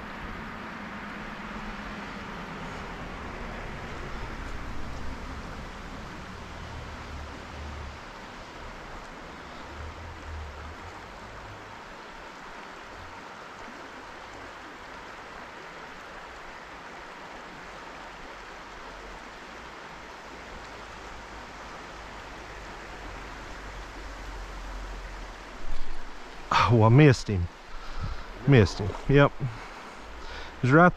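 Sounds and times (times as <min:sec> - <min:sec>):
stream water rushing: 0:00.0 - 0:30.9.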